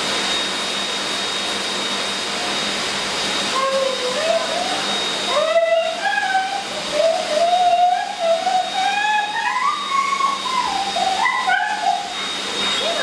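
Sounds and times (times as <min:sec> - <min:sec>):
dog dryer blowing air: 0:00.0 - 0:13.0.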